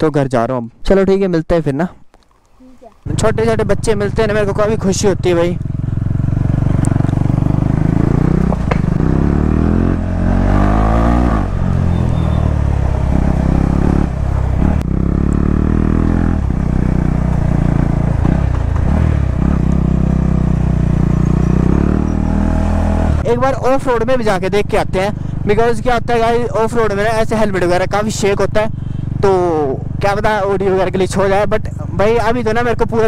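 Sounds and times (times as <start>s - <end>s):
motorcycle engine revving: 3.0s - 33.0s.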